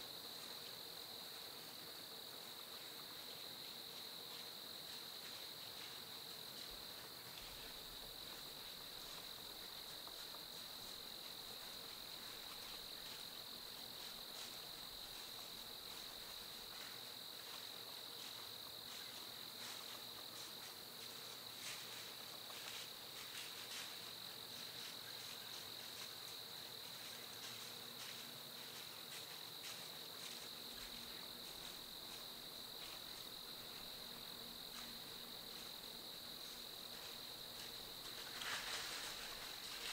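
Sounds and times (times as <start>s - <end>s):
crickets trilling: 0.0s - 39.9s
rustles through dry leaves: 4.9s - 39.9s.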